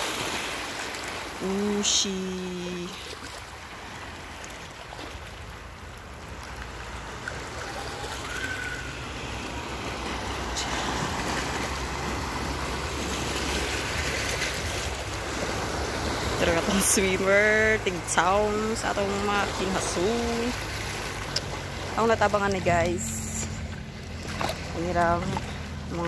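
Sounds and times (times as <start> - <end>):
waves washing over rocky shore: 0.0 - 26.0.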